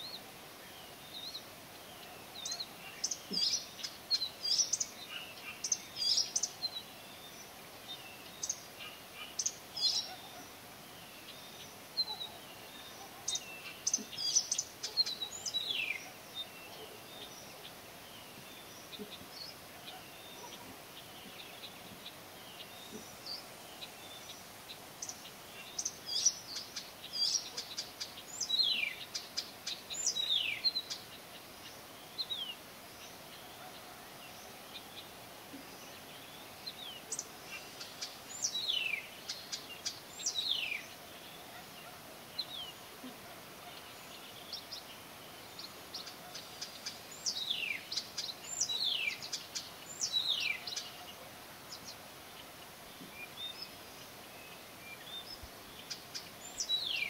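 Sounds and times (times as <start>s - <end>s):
faint background hiss: 0.0s - 57.0s
songbird singing: 0.0s - 57.0s.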